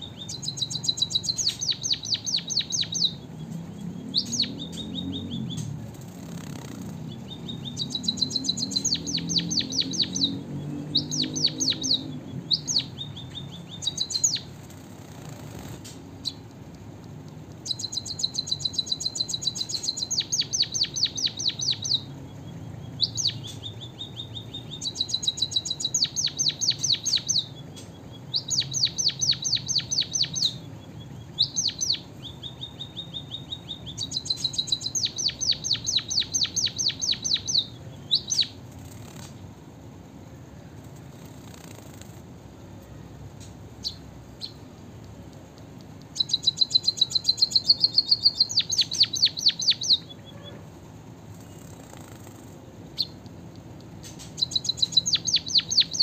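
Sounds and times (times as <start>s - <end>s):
bird singing high rattling trills: 0.0s - 16.6s, 17.5s - 39.6s, 46.0s - 50.6s, 51.2s - 56.0s.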